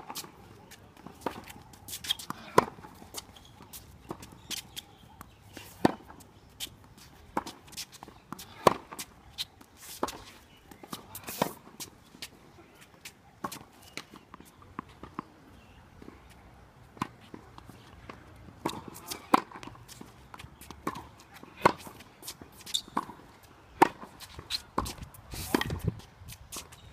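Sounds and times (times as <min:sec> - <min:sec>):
footsteps and shoe scuffs on court: 0:00.0 - 0:15.3, 0:16.0 - 0:26.9.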